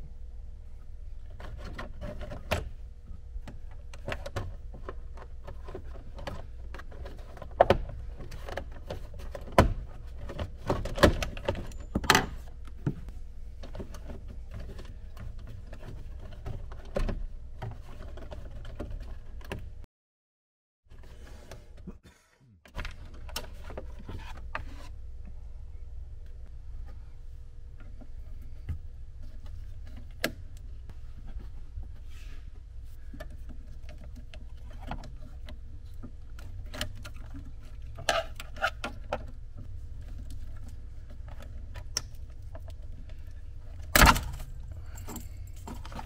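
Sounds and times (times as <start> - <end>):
steady low hum: 0.0 - 19.9, 20.9 - 46.0.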